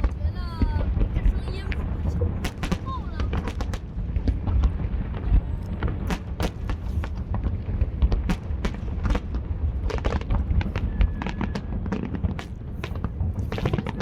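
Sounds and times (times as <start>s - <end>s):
fireworks cracks and pops: 0.0s - 14.0s
low rumble of booms: 0.0s - 14.0s.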